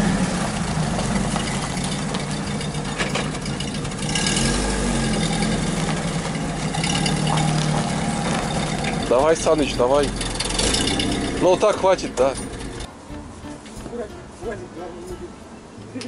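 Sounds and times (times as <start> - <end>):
car engine idling: 0.0 - 15.6.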